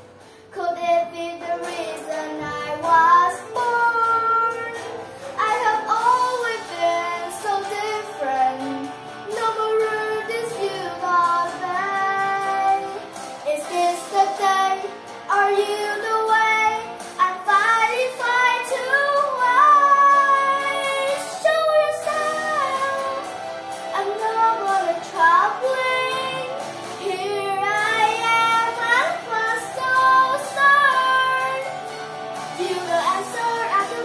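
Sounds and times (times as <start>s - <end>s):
backing music: 0.0s - 34.0s
girl singing into a microphone: 0.3s - 23.3s, 23.9s - 31.7s, 32.5s - 34.0s.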